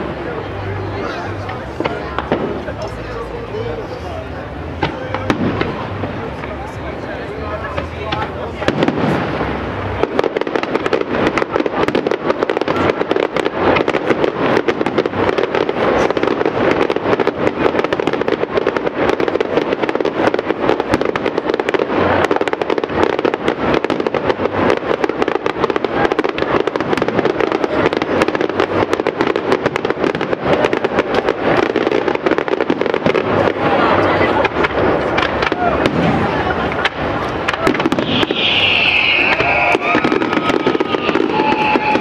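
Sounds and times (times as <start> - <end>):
fireworks crackling and popping: 0.0 - 42.0.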